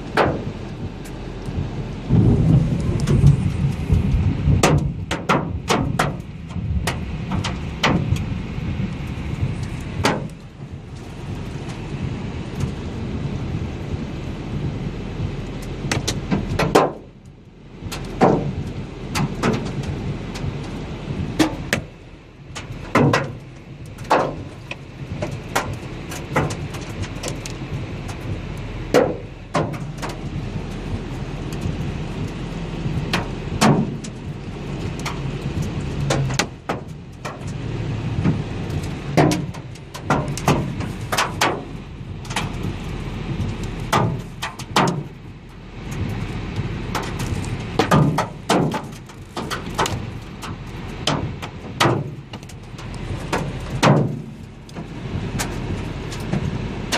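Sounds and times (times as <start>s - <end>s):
hailstones knocking hard surfaces: 0.0s - 12.9s, 13.9s - 17.2s, 17.8s - 56.9s
hail and rain falling: 0.0s - 56.9s.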